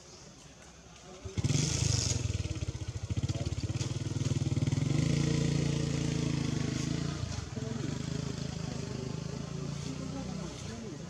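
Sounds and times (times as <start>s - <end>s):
motorcycle engine puttering: 1.2s - 10.9s.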